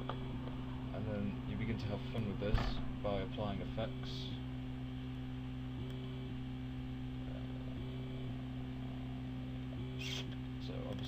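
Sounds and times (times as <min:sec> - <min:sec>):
low electronic drone: 0:00.0 - 0:11.0.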